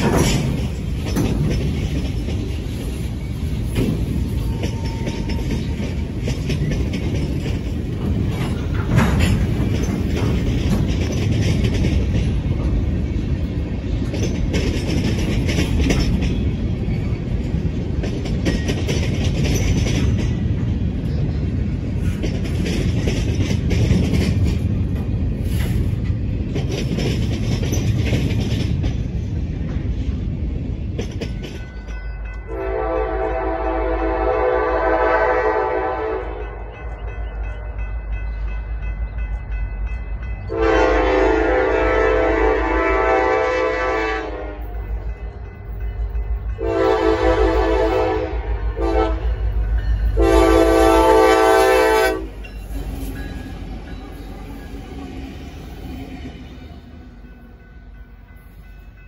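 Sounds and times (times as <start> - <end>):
freight cars rumbling: 0.0 - 32.5, 35.8 - 59.0.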